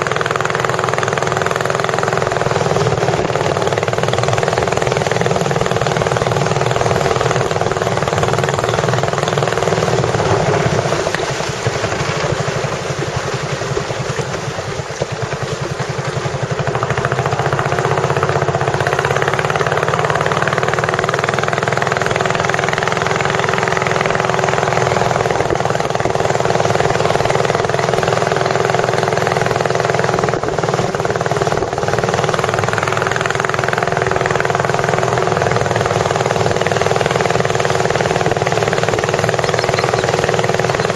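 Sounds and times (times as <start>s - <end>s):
boat engine running: 0.0s - 40.9s
wind and water rushing: 0.0s - 40.9s.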